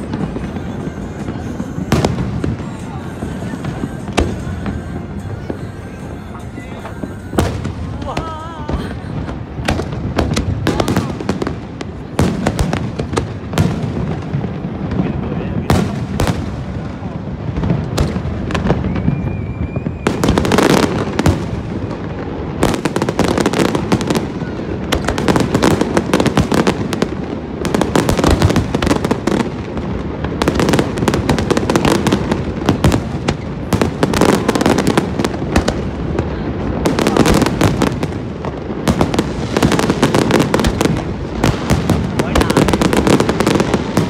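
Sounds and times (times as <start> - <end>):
fireworks booming and crackling: 0.0 - 44.0.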